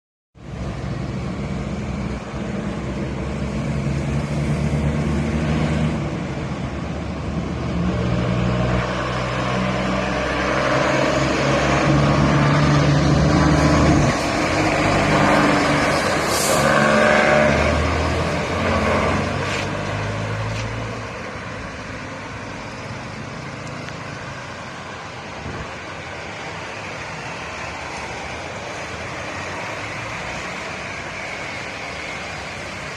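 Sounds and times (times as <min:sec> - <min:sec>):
heavy truck engines passing: 0:00.4 - 0:32.9.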